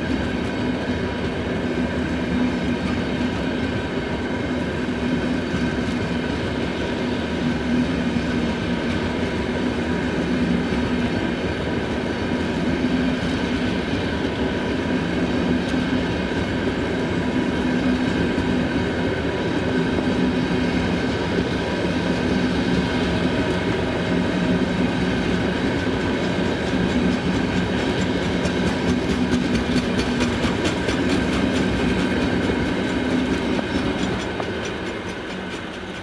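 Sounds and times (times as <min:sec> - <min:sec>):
train wheels clattering over joints: 0:05.4 - 0:36.0.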